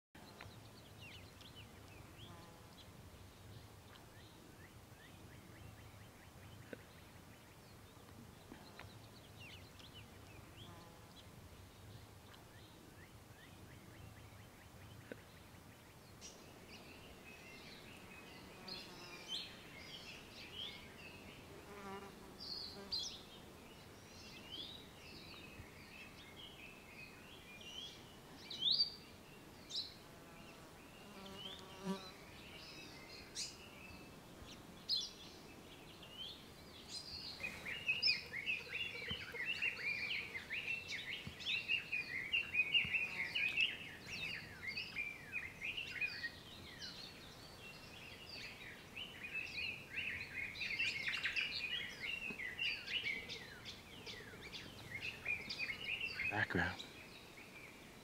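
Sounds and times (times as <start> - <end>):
birds singing and chirping: 0.2 - 58.0.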